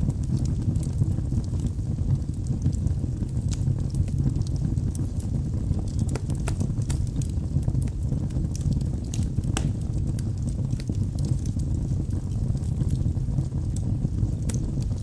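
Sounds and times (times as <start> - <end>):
logs crackling and popping: 0.0 - 15.0
low fire rumble: 0.0 - 15.0.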